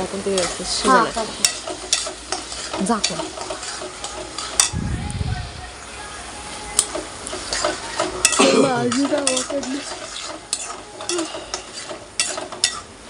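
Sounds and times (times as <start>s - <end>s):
metal spatula scraping pan: 0.0s - 4.8s, 6.8s - 12.9s
food sizzling: 0.0s - 13.0s.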